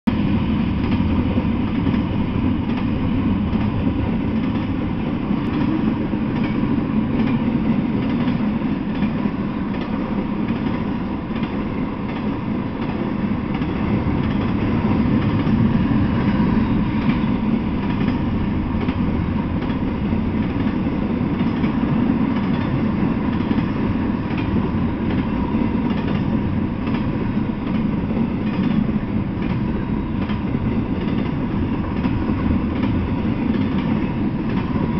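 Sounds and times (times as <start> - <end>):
freight train wheels rumbling: 0.1 - 34.9.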